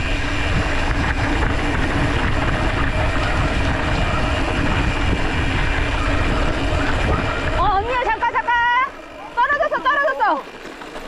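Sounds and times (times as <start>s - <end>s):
wind rumble on microphone: 0.0s - 8.9s
bike tyres on dirt road: 0.0s - 11.0s.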